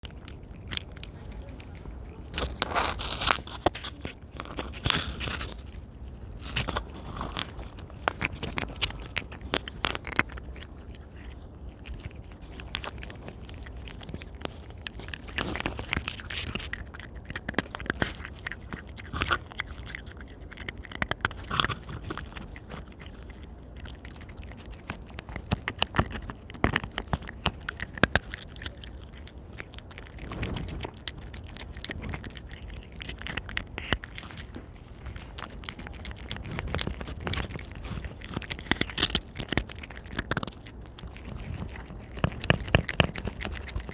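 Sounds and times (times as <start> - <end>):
wet chewing and biting: 0.0 - 43.9.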